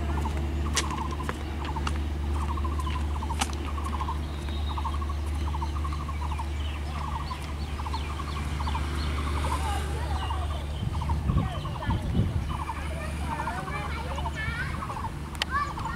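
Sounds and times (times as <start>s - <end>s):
bird trilling: 0.0s - 15.9s
diesel locomotive rumble: 0.0s - 15.9s.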